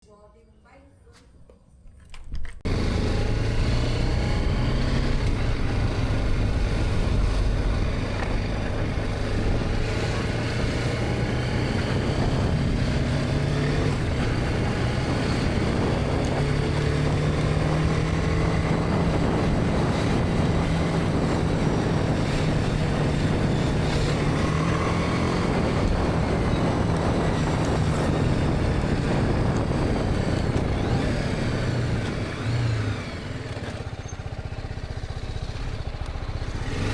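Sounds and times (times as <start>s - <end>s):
motorcycle engine running: 2.6s - 36.9s.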